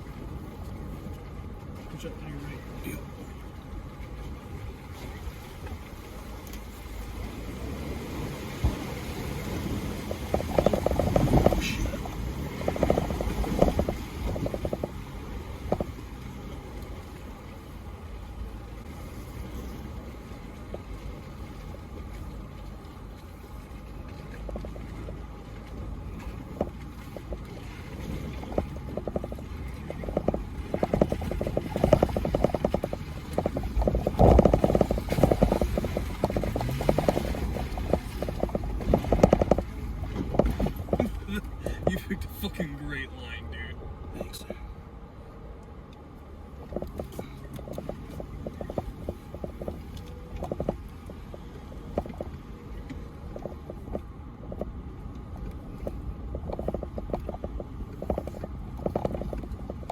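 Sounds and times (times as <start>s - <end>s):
engine rumble: 0.0s - 59.9s.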